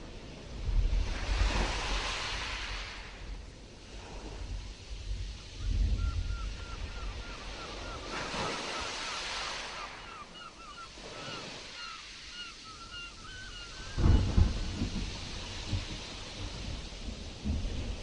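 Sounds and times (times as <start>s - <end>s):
stormy sea surf washing: 0.0s - 18.0s.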